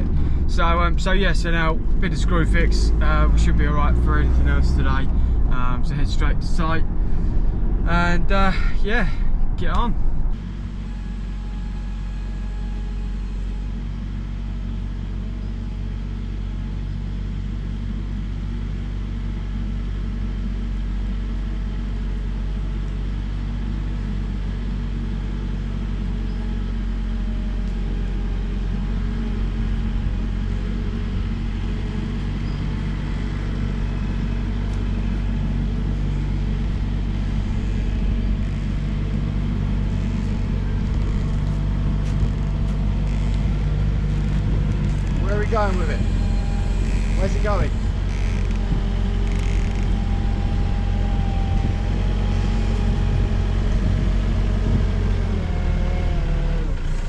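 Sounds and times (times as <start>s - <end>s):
vehicle engine and road drone: 0.0s - 57.0s.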